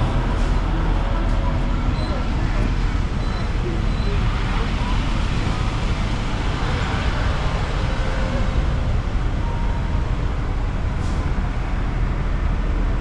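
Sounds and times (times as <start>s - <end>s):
tram rumble and road noise: 0.0s - 13.0s.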